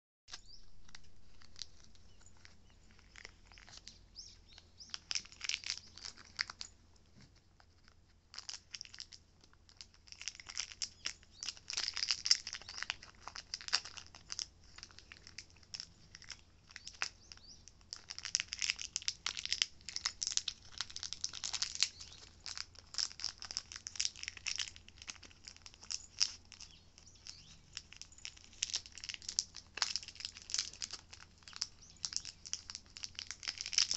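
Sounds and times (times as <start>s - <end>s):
foil packet crinkling: 0.3s - 33.9s.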